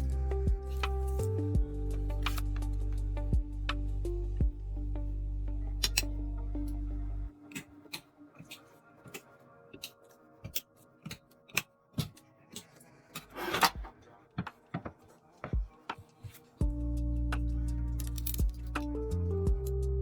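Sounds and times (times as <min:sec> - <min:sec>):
background music with low drone: 0:00.0 - 0:13.9, 0:15.3 - 0:20.0.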